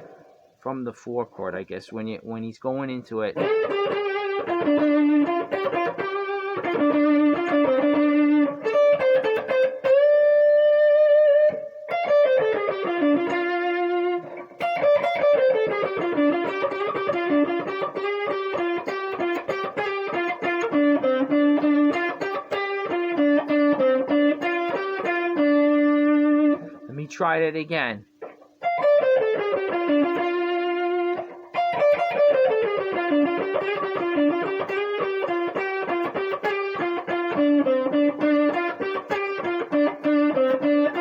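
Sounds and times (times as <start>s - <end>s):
guitar playing blues solo: 0.0s - 0.6s, 3.1s - 41.0s.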